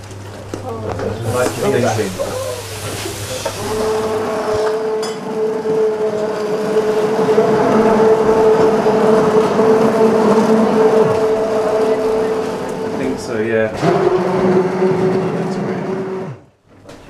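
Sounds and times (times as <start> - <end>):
hand blender motor whine: 1.4 - 16.5.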